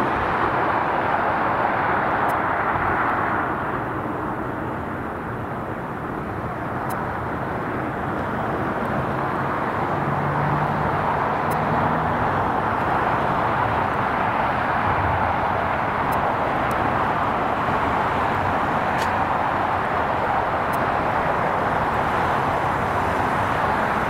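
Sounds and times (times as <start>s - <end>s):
distant engines roaring: 0.0s - 24.0s.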